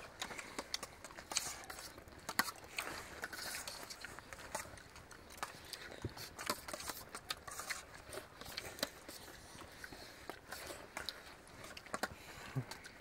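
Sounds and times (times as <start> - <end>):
faint irregular clicks and knocks: 0.0 - 13.0.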